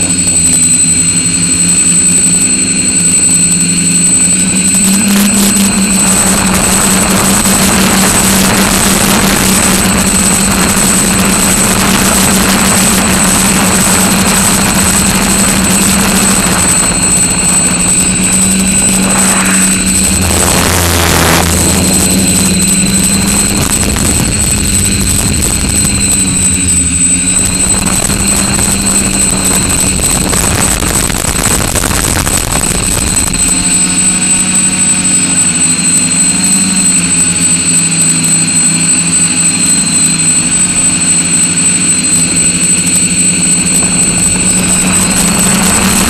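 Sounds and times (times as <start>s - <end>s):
quadcopter motors buzzing: 0.0s - 46.0s
wind noise on microphone: 0.0s - 46.0s.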